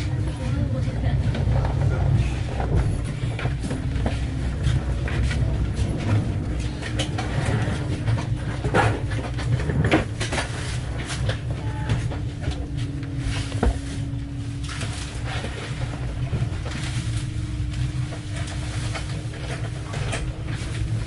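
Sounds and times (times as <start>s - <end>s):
constant hum: 0.0s - 21.0s
train rumble: 0.0s - 21.0s.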